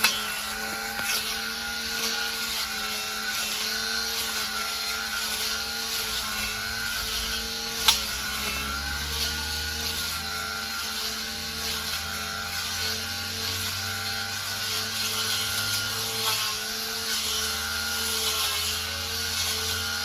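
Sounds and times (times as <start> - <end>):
brush cutter motor whining: 0.0 - 20.0.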